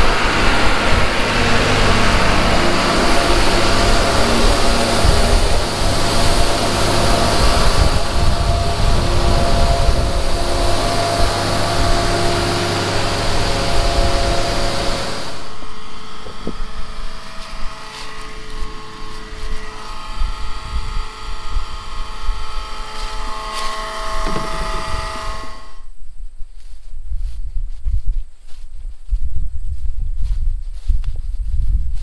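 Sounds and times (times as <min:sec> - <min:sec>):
tractor engine running: 0:00.0 - 0:25.8
grain auger running: 0:00.0 - 0:25.9.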